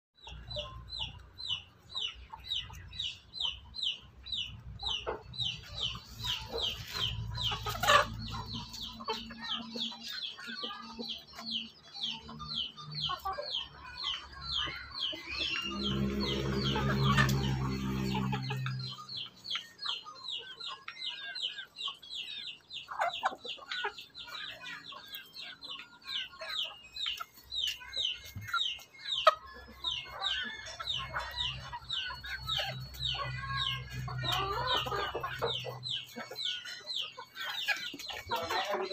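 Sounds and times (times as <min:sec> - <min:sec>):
chickens clucking: 0:00.2 - 0:38.9
chicks peeping: 0:00.2 - 0:38.9.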